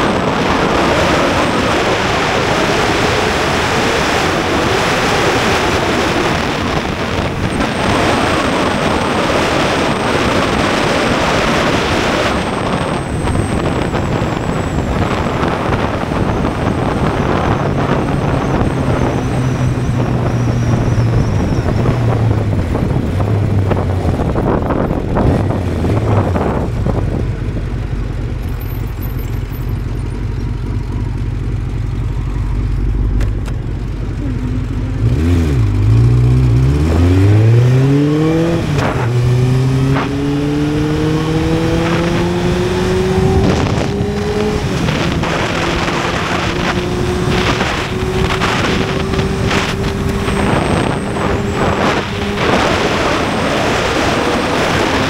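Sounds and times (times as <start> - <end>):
wind rush: 0.0 - 28.3, 35.0 - 55.0
motorcycle engine: 0.0 - 55.0.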